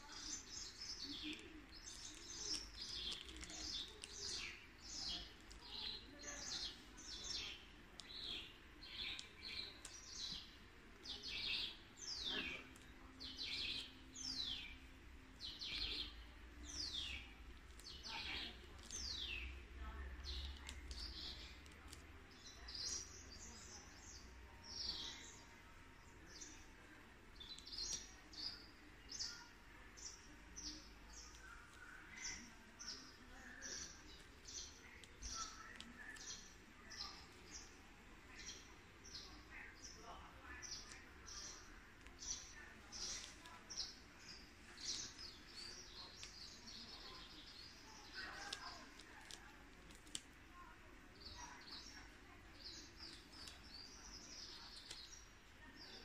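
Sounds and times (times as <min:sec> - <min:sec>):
bird chirping: 0:00.0 - 0:49.4.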